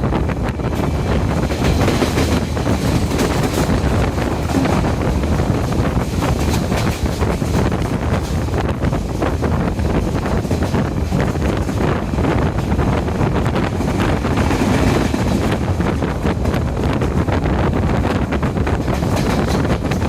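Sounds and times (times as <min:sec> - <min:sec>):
train running at speed: 0:00.0 - 0:20.0
wind buffeting microphone: 0:00.0 - 0:20.0.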